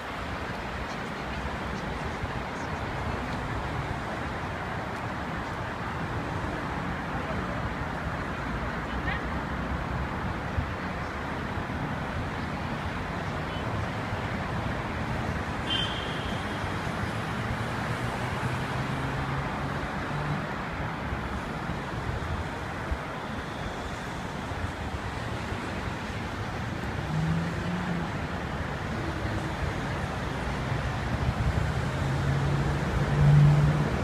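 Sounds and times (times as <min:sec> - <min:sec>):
cars passing on road: 0:00.0 - 0:34.0.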